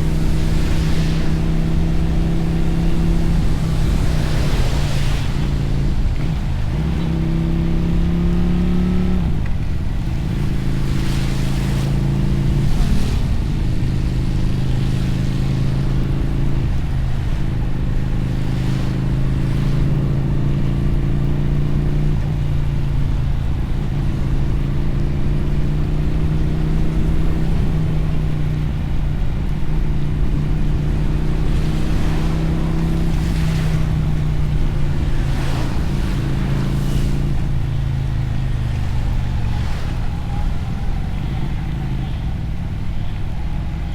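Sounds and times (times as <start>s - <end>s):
motorcycle engine and exhaust: 0.0s - 43.9s
wind: 0.0s - 43.9s.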